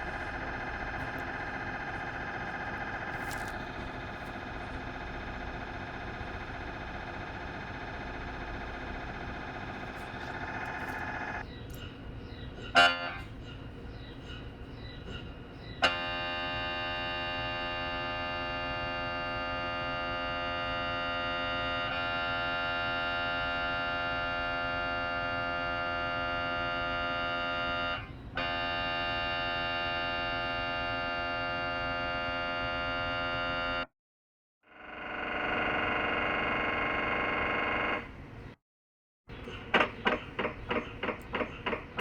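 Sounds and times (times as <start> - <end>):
mri scanner buzzing drone: 0.0 - 11.5, 12.7 - 13.3, 13.9 - 33.9, 34.7 - 38.3.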